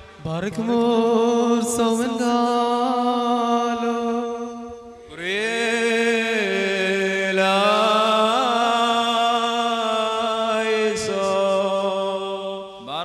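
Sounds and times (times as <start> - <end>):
person chanting long held notes: 0.0 - 13.0.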